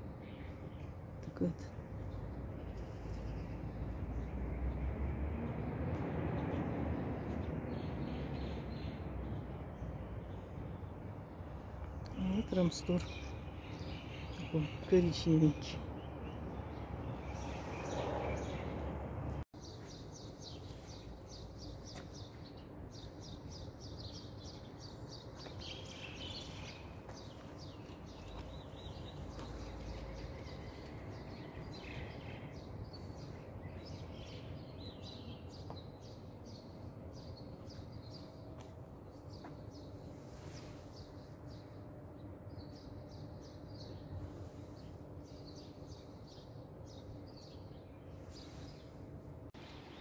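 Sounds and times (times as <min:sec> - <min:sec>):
street background noise: 0:00.0 - 0:50.0
small birds chirping: 0:07.2 - 0:50.0.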